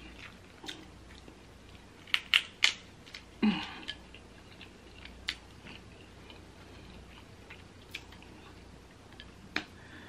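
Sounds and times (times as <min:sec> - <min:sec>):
soft chewing: 0:00.0 - 0:09.8.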